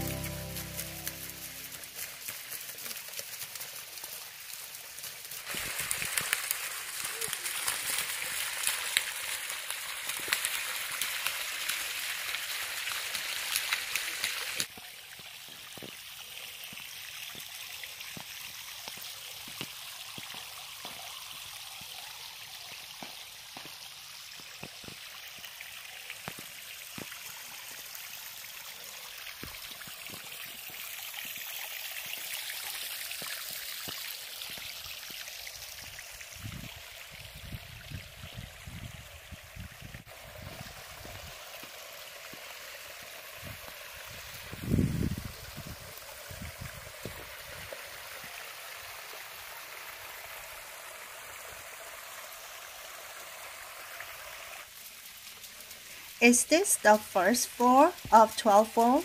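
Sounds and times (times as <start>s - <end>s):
water trickling over rock: 0.0s - 59.0s.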